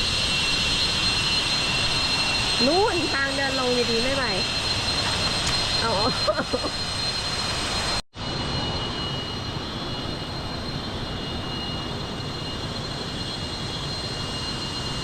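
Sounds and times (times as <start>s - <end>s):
cicadas droning: 0.0s - 8.0s, 8.6s - 15.0s.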